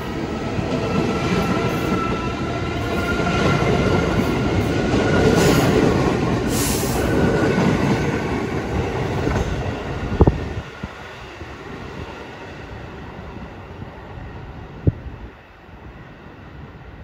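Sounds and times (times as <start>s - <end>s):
subway train rumbling past: 0.0s - 17.0s.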